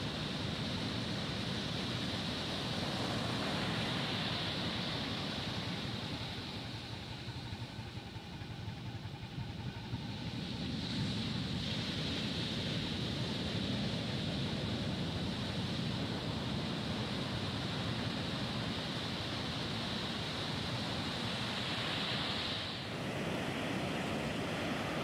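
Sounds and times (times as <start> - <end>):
ocean surf breaking on beach: 0.0 - 7.6, 9.7 - 25.0.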